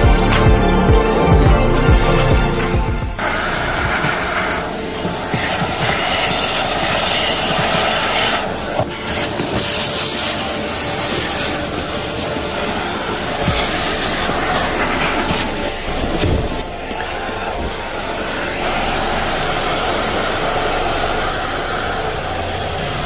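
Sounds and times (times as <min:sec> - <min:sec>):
vacuum cleaner running: 0:03.2 - 0:23.0.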